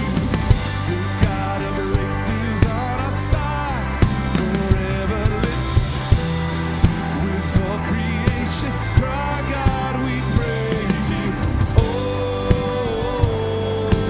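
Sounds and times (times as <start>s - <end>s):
live worship band playing: 0.0s - 14.0s
steady drum beat: 0.0s - 14.0s.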